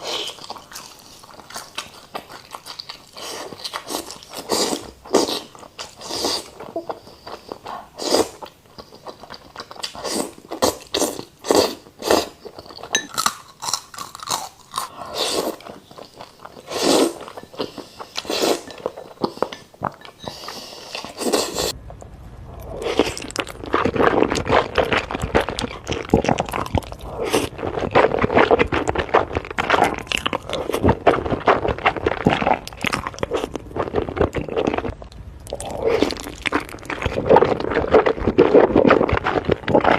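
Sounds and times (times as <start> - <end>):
wet chewing of noodles: 0.0 - 21.8, 22.6 - 39.9.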